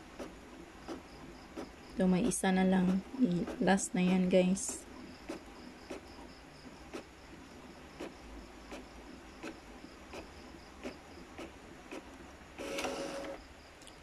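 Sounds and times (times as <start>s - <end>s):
printer feed rollers whirring: 0.0s - 13.4s.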